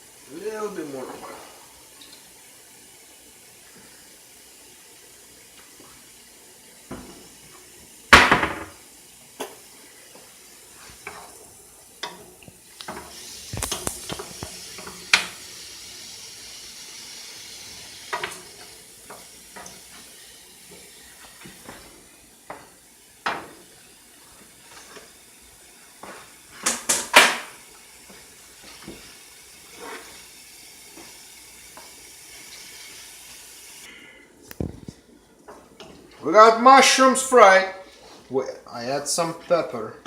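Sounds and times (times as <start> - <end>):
mushrooms sizzling in a pan: 0.0 - 33.9.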